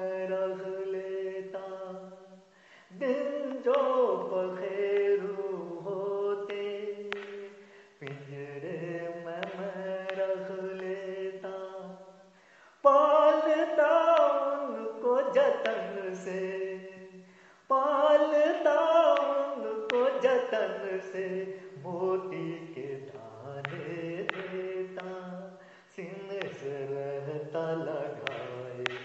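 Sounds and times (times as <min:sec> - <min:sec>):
man singing: 0:00.0 - 0:29.0.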